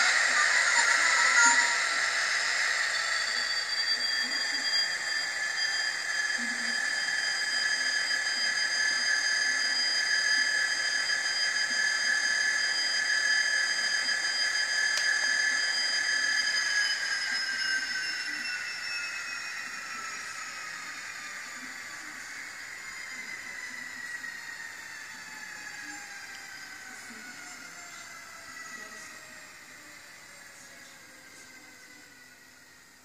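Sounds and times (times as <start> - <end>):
diesel engine sound from small speaker: 0.0 - 33.0.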